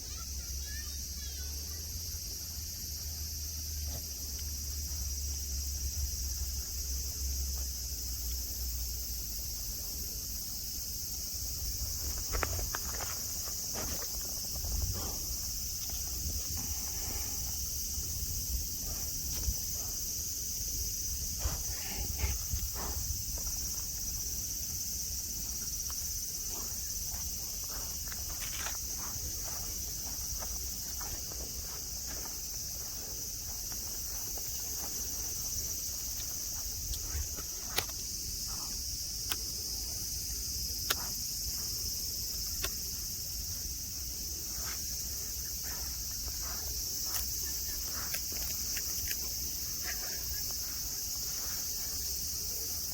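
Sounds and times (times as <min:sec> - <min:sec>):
cicadas singing: 0:00.0 - 0:52.9.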